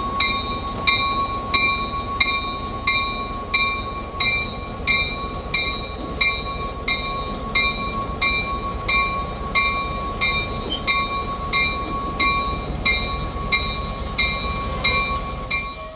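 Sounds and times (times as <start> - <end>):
locomotive bell ringing: 0.0 - 15.9
locomotive engine rumble: 0.0 - 15.9.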